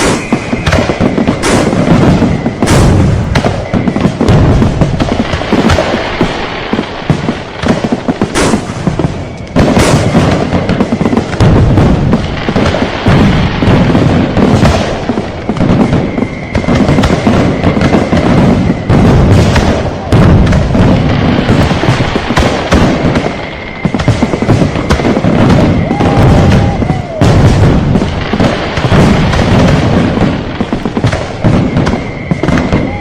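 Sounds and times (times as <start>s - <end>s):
firecrackers crackling: 0.0s - 33.0s
fireworks bangs and booms: 0.0s - 33.0s.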